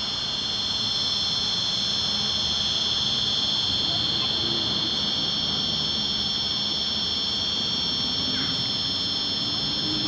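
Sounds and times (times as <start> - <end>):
electric motor whine: 0.0 - 10.0.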